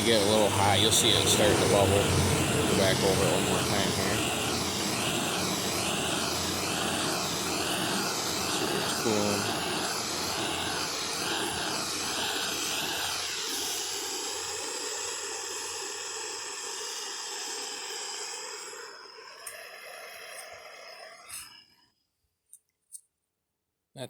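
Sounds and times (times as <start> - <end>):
gas torch hissing: 0.0 - 21.8.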